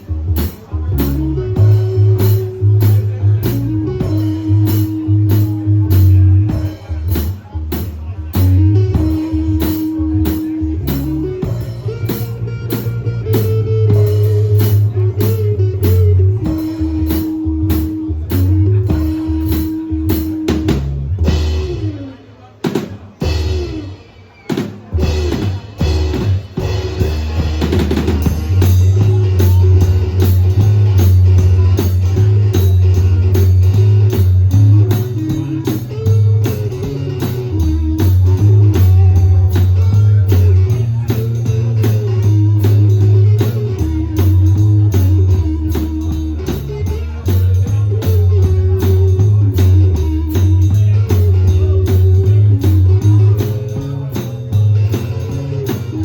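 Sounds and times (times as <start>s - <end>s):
blues band playing: 0.0s - 56.0s
drum kit beat: 0.0s - 56.0s
guitar: 0.0s - 56.0s.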